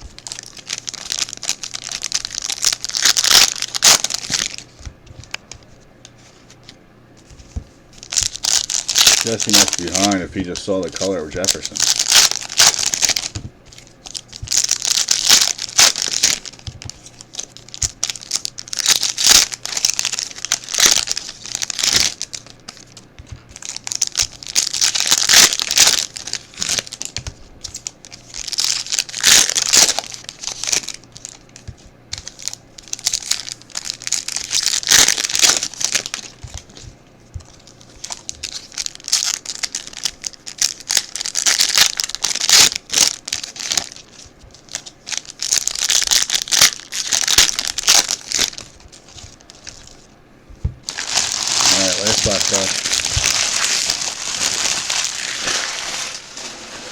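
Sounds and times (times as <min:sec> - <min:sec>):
foil wrappers tearing and crinkling: 0:00.0 - 0:05.6, 0:08.0 - 0:50.1, 0:50.8 - 0:56.9.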